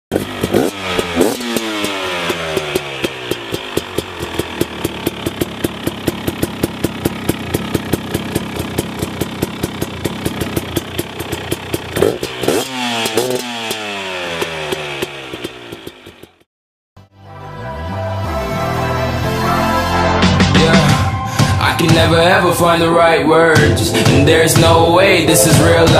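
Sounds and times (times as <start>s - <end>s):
motocross bike engine revving: 0.1s - 16.5s, 17.7s - 25.9s.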